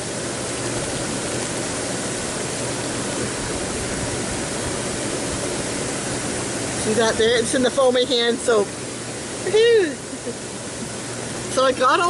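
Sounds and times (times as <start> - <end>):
hot tub jets churning water: 0.0 - 12.0.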